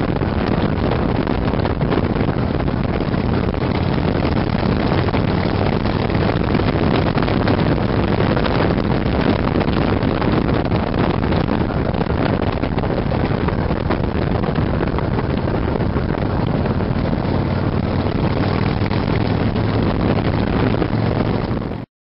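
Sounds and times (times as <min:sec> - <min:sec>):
motorcycle engine humming: 0:00.0 - 0:21.8
wind buffeting microphone: 0:00.0 - 0:21.9.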